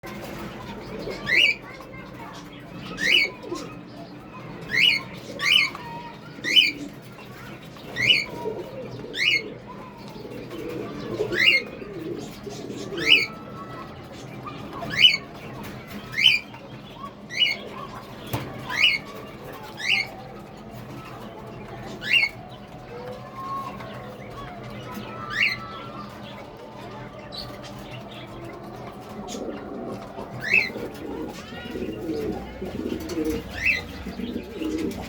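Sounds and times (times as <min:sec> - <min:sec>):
pigeon cooing: 0:00.1 - 0:35.0.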